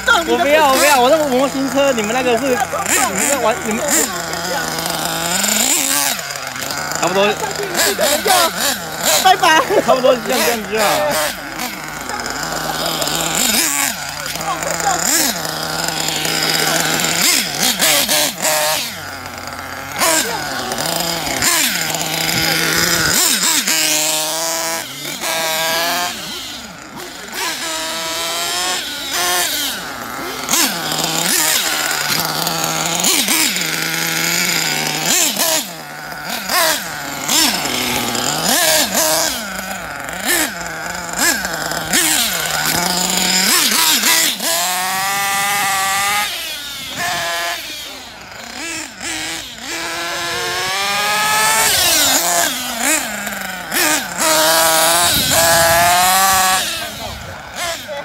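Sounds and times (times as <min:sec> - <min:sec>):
rc car engine revving: 0:00.0 - 0:58.0.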